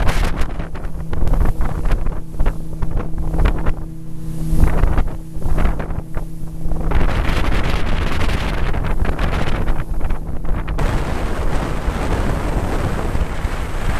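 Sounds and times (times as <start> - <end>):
motorboat engine hum: 0.0 - 13.9
water rushing past hull: 0.0 - 13.9
wind buffeting microphone: 0.0 - 13.9.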